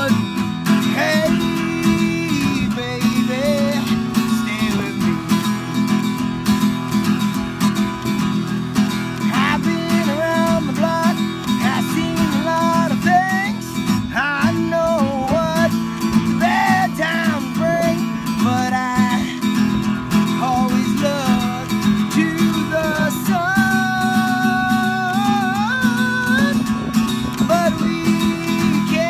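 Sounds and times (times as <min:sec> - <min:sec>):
man singing: 0:00.0 - 0:06.2, 0:08.8 - 0:29.0
acoustic guitar strumming: 0:00.0 - 0:29.0.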